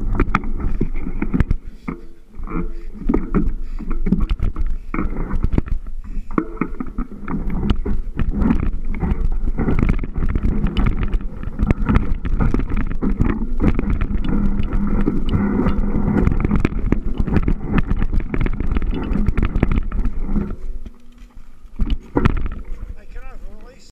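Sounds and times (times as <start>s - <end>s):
small crackles and knocks: 0.0s - 23.9s
wind buffeting microphone: 0.0s - 23.9s.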